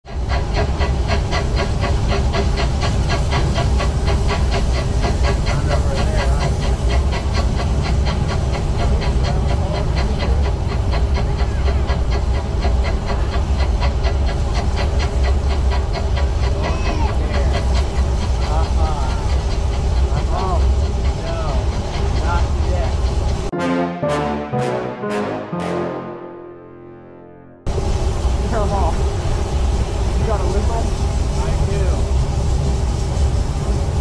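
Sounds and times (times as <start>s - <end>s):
steam locomotive chuffing: 0.0s - 26.4s, 27.7s - 34.0s.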